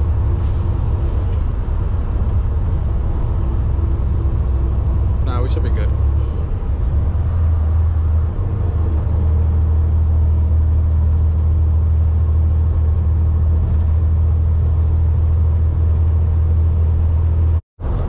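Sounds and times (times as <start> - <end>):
road noise: 0.0 - 18.0
truck diesel engine droning: 0.0 - 18.0.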